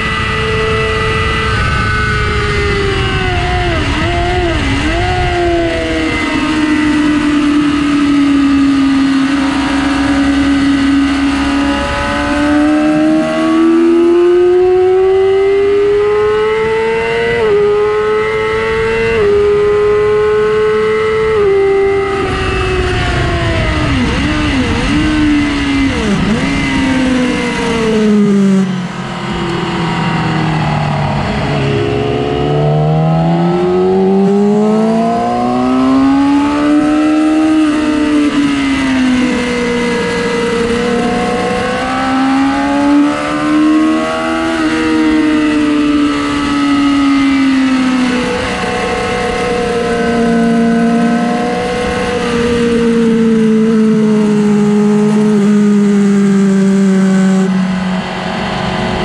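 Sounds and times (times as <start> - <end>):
downshifting engine blips: 0.0 - 59.0
motorcycle engine at high revs: 0.0 - 59.0.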